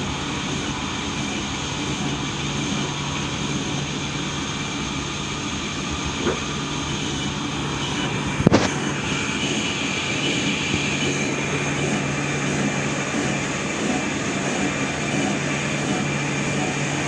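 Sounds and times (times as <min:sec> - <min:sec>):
sawmill machinery drone: 0:00.0 - 0:17.0.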